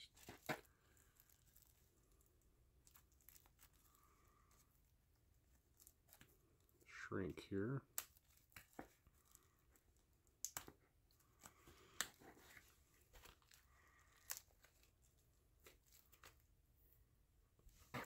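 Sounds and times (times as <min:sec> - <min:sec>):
plastic wrap tearing and crinkling: 0:00.0 - 0:06.7, 0:07.9 - 0:16.6.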